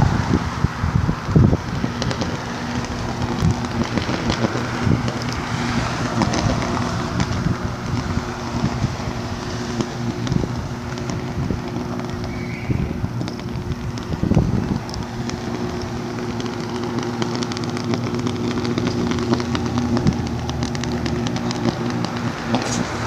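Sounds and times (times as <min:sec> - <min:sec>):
scattered crackles: 0:00.0 - 0:23.0
steady low hum: 0:00.0 - 0:23.0
wind buffeting microphone: 0:00.0 - 0:23.0.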